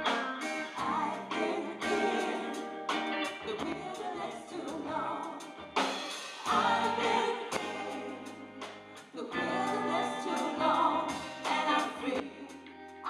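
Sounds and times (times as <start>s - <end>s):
drum kit: 0.0s - 12.3s
bass: 0.0s - 13.0s
female vocal quartet singing gospel: 0.6s - 5.7s, 6.4s - 13.0s.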